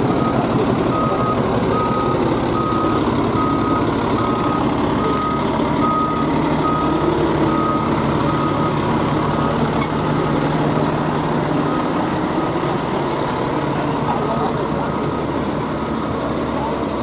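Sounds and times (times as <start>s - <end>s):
diesel engine running: 0.0s - 17.0s
reversing alarm beeps: 0.1s - 11.0s, 11.6s - 12.8s, 14.6s - 16.7s.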